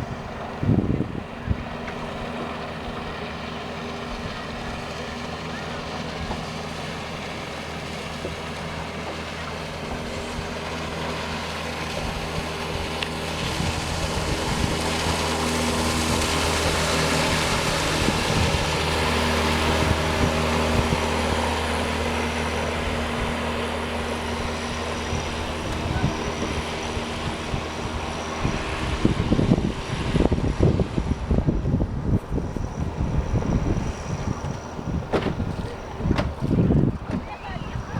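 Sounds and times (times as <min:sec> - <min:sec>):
hiss of water and wind: 0:00.0 - 0:37.9
outboard motor running: 0:00.0 - 0:37.9.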